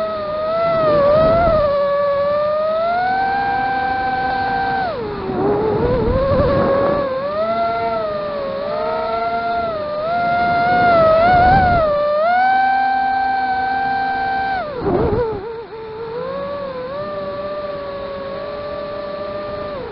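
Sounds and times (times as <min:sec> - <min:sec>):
drone motors whining: 0:00.0 - 0:19.9.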